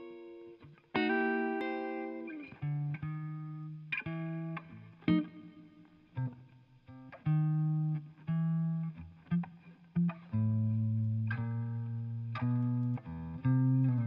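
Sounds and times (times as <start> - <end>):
bluesy electric guitar with reverb: 0.0 - 14.0.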